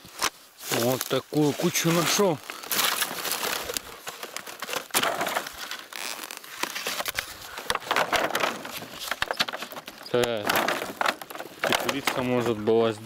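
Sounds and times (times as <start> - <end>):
plastic bottle crinkling: 0.0 - 12.7.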